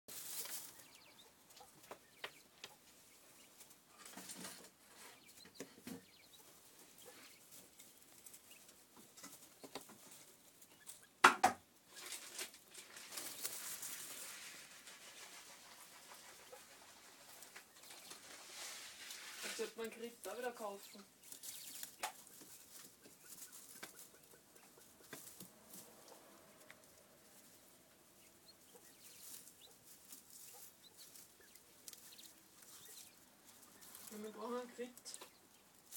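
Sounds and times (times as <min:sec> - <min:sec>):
birds rustling in straw: 0:00.1 - 0:35.9.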